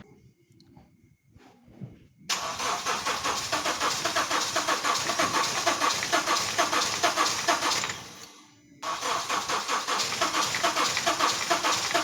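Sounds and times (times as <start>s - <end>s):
engine cranking by starter motor: 2.3s - 12.0s.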